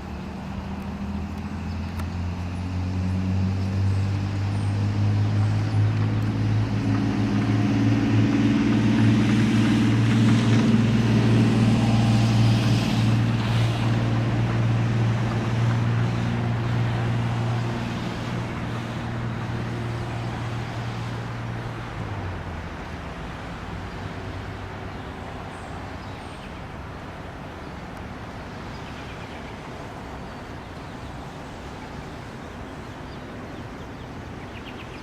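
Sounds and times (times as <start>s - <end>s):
passing vehicle engine drone: 0.0s - 35.0s.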